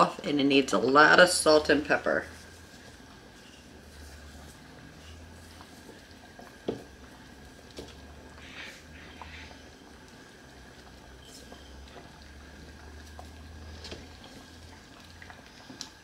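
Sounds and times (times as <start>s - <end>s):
low steady hum: 0.0s - 16.0s
soup bubbling in a pot: 0.0s - 16.0s.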